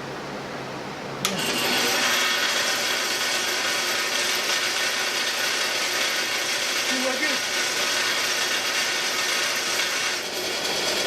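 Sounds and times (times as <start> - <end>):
band saw running with high whine: 1.3 - 11.0.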